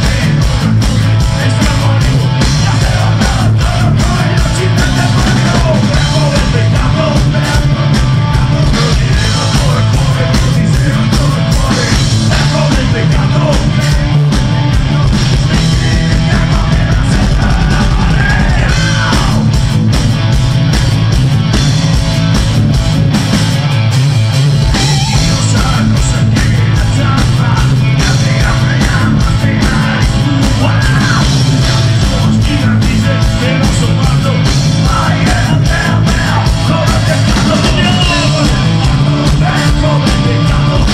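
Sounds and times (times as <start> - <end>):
live rock band playing: 0.0 - 40.9
man singing into microphone: 1.3 - 14.2, 14.9 - 19.4, 25.3 - 40.9.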